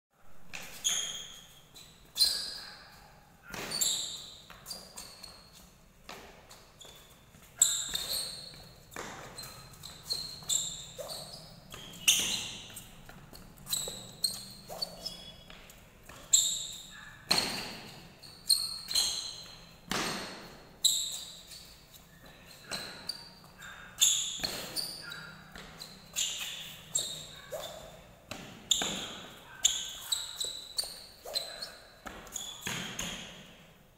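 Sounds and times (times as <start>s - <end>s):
shoes squeaking on floor: 0.4s - 33.9s.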